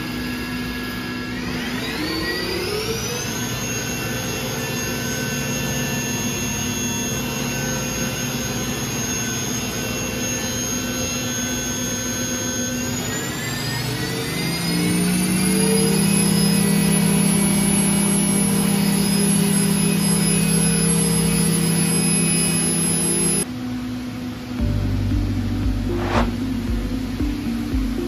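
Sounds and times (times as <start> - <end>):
machine motor whine: 0.0 - 28.0.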